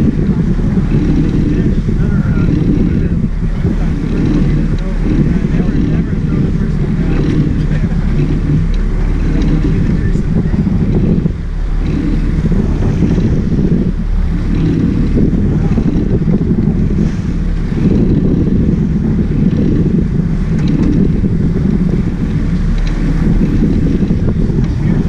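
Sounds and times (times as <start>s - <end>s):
boat engines rumbling: 0.0s - 25.0s
water churning: 0.0s - 25.0s
wind buffeting microphone: 0.0s - 25.0s.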